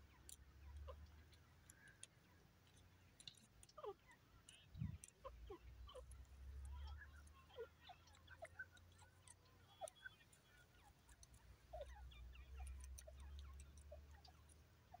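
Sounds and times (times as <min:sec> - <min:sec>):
faint bird chirps: 0:00.0 - 0:15.0
soft ticks: 0:00.0 - 0:15.0.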